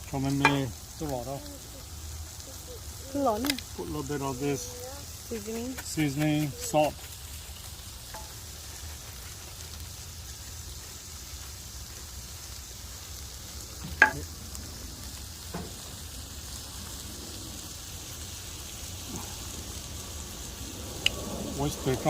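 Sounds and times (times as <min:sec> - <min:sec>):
clam meat sizzling in a pan: 0:00.0 - 0:22.0.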